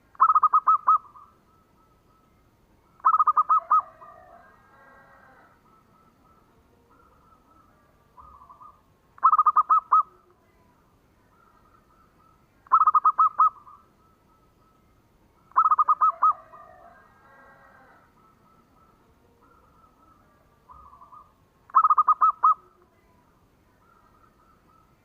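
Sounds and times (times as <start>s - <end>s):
dove cooing: 0.0s - 2.0s, 3.0s - 10.4s, 11.3s - 14.8s, 15.4s - 25.0s.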